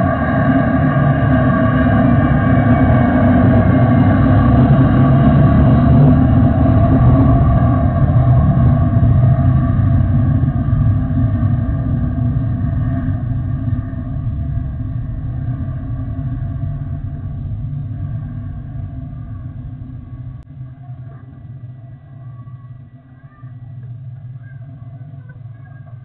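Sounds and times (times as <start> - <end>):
jet engine whine: 0.0 - 26.0
jet engines rumbling: 0.0 - 26.0.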